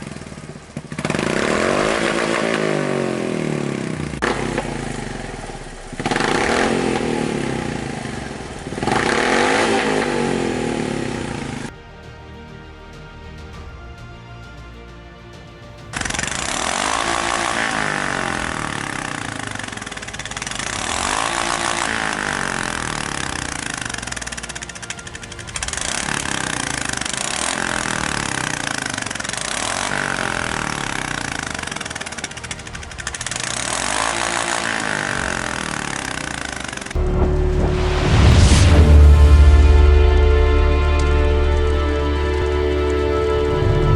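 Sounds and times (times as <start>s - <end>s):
motorcycle engine revving: 0.0s - 11.8s, 16.0s - 43.9s.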